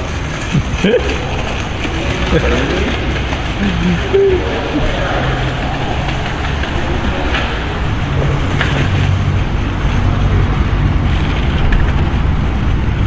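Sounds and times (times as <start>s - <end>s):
street traffic rumble: 0.0s - 13.0s
wind buffeting microphone: 0.0s - 13.0s.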